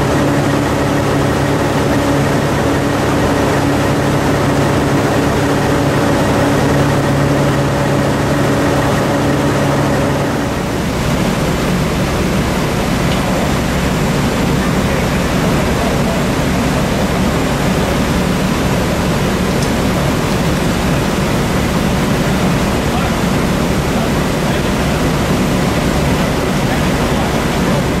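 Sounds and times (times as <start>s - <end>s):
fire engines running: 0.0s - 28.0s.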